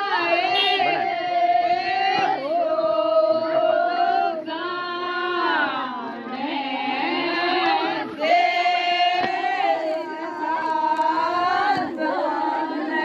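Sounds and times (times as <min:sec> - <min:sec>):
group singing long held notes: 0:00.0 - 0:13.0.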